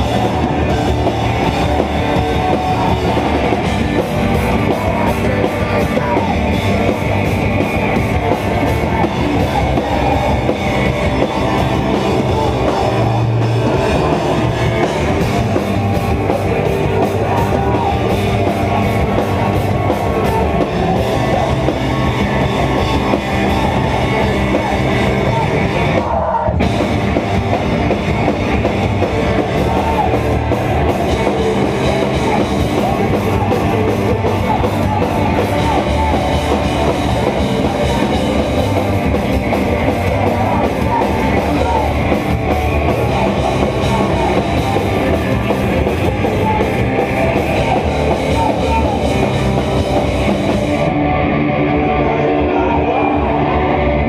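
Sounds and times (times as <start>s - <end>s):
pounding drum kit: 0.0s - 51.1s
bass guitar: 0.0s - 54.0s
distorted electric guitars: 0.0s - 54.0s
shouted vocals: 0.0s - 54.0s.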